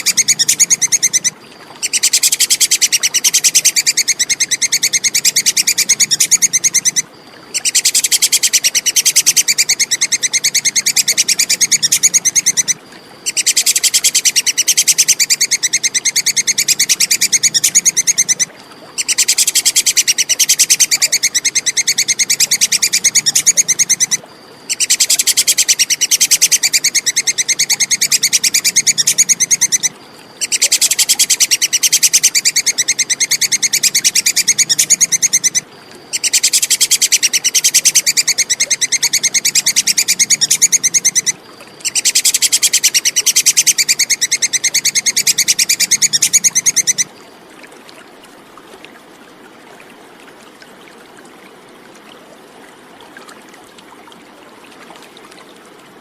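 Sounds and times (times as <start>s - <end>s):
squirrel chattering call: 0.0s - 47.1s.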